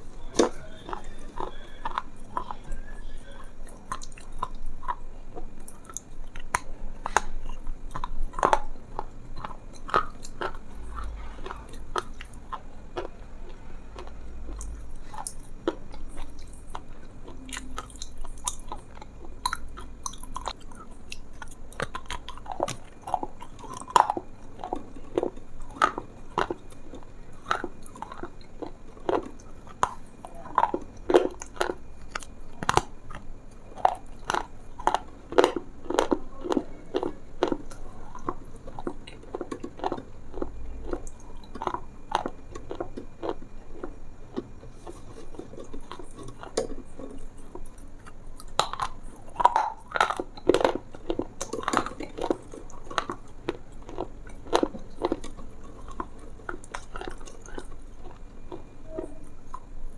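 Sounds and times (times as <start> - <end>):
close chewing and crunching: 0.0 - 59.9.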